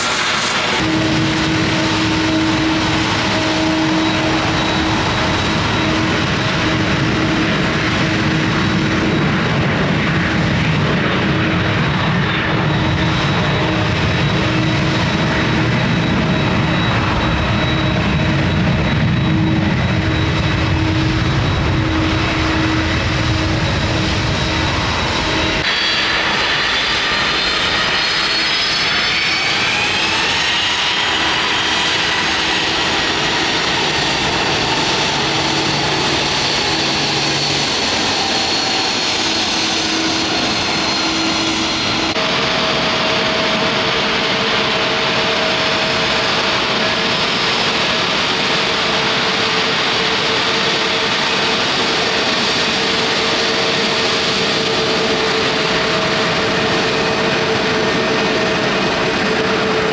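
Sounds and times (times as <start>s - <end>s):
engine roar with low hum: 0.0s - 59.9s
jet engines roaring and whining: 0.0s - 59.9s.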